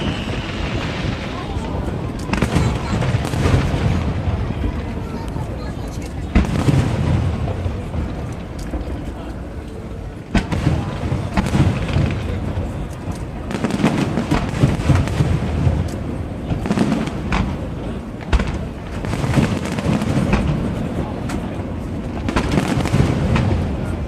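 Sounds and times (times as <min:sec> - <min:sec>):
loud firework bangs: 0:00.0 - 0:09.2, 0:10.2 - 0:24.0
firework cracks and pops: 0:00.0 - 0:24.0
rumble of firework booms: 0:00.0 - 0:24.0.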